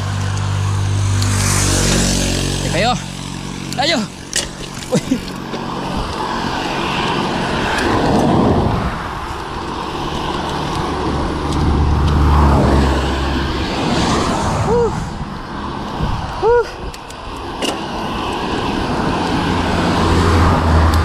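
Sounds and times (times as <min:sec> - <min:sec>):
road and wind noise: 0:00.0 - 0:21.0
vehicle engine hum: 0:00.0 - 0:21.0.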